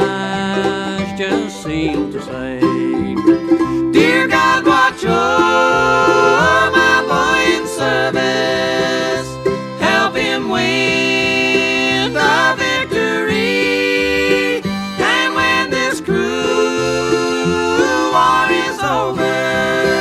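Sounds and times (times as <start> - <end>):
bluegrass band music: 0.0 - 20.0.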